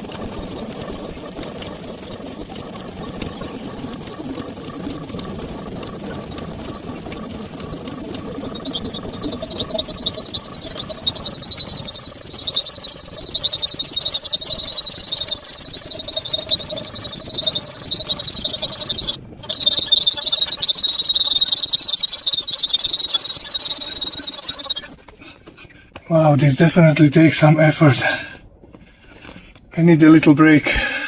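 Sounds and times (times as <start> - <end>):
air pump pulsing hiss: 0.0 - 24.9.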